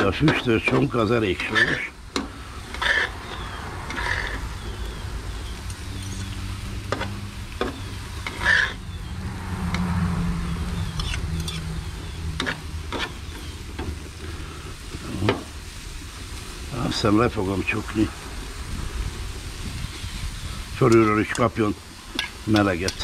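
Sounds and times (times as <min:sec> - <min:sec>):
meat frying on a grill: 0:00.0 - 0:23.0
utensil scraping cooking surface: 0:00.0 - 0:23.0.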